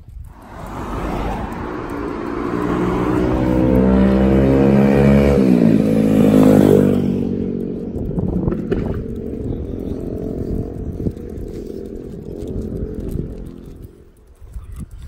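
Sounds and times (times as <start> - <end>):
vehicle passing by: 0.2 - 14.2.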